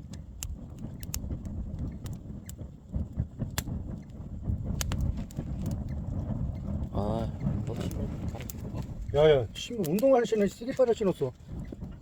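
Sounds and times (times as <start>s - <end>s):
fire low rumble: 0.0s - 12.0s
wood fire crackling and popping: 0.0s - 12.0s.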